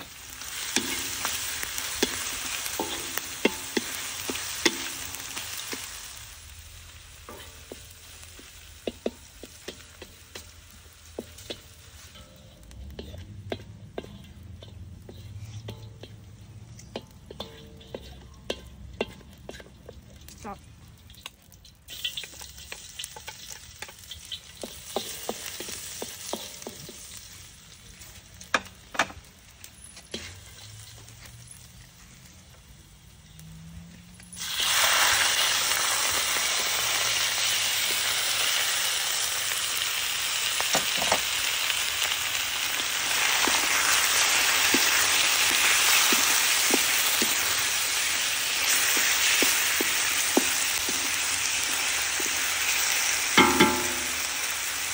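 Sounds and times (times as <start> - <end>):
spatula clicking and scraping in wok: 0.0 - 32.4, 39.6 - 54.7
food frying in oil: 0.0 - 54.9
loud sizzle of chicken in oil: 0.0 - 54.9.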